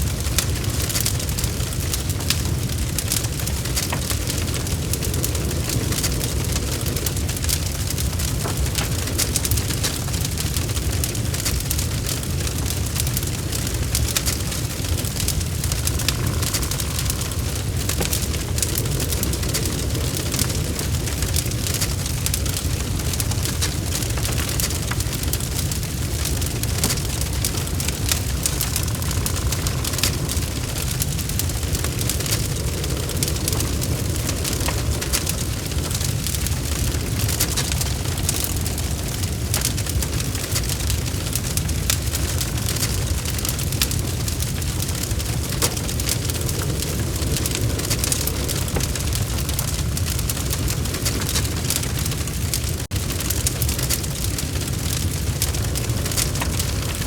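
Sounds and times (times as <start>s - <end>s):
fire flames rumbling: 0.0s - 57.0s
wood crackling and popping: 0.0s - 57.0s.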